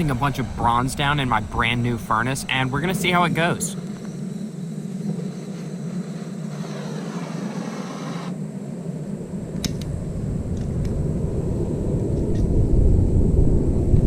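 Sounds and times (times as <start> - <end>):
burner low rumble: 0.0 - 14.0
hum with falling sweep: 0.0 - 14.0.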